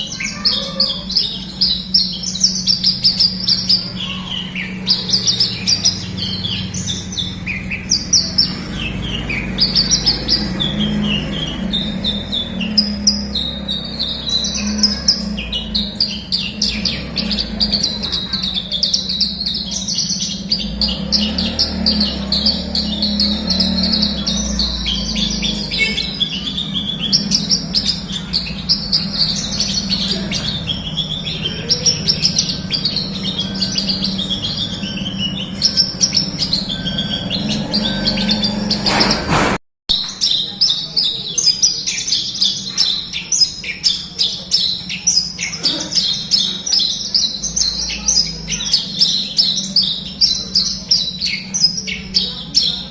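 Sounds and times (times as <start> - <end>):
bird singing rapid chirps and trills: 0.0 - 52.9.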